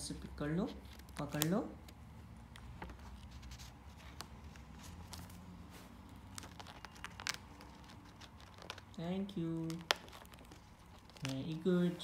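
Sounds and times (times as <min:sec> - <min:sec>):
paper card crinkling and clicking: 0:00.8 - 0:05.4, 0:06.1 - 0:12.0.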